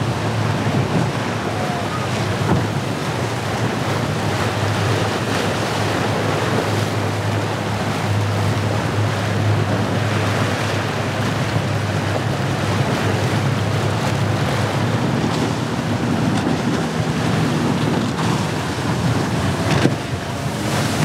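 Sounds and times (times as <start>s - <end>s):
motorboat engines: 0.0s - 21.0s
waves breaking: 0.0s - 21.0s
wind buffeting microphone: 0.0s - 21.0s.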